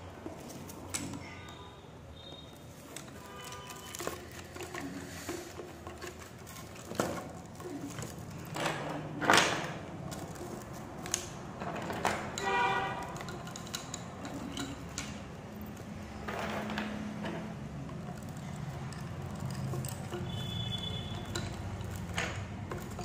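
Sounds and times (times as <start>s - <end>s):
bangles clicking and scraping: 0.0s - 23.0s.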